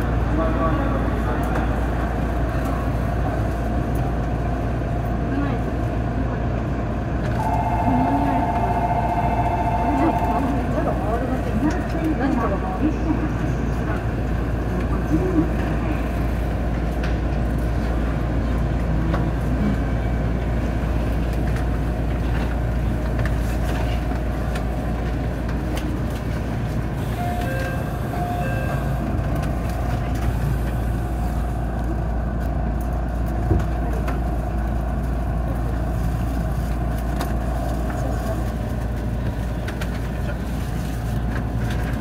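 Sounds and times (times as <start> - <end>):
station ambience: 0.0 - 39.6
electric train humming: 0.0 - 40.0.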